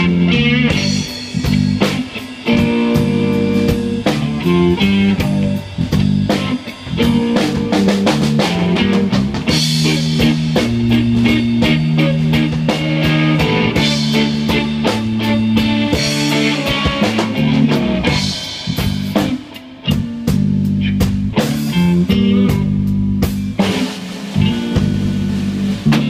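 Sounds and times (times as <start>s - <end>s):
bass guitar notes: 0.0s - 26.0s
drum kit hits: 0.0s - 26.0s
electric guitar: 0.0s - 26.0s.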